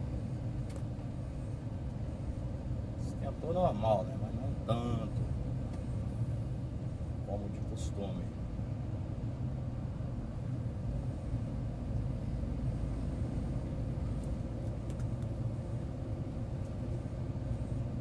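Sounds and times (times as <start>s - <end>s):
truck engine and tyre noise: 0.0s - 18.0s.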